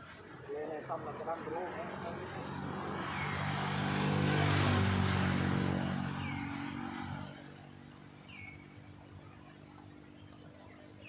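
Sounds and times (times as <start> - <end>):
vehicle driving past: 0.0 - 11.0.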